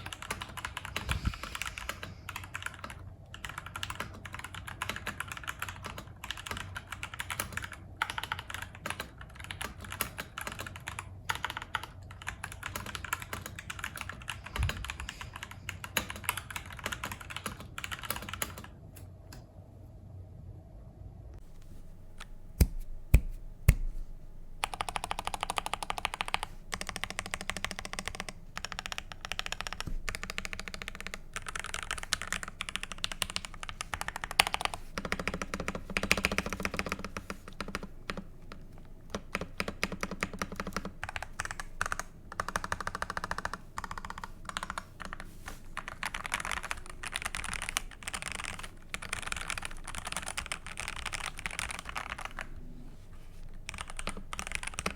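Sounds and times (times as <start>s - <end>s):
fast mechanical keyboard typing: 0.0s - 18.8s, 24.6s - 52.6s, 53.5s - 54.9s.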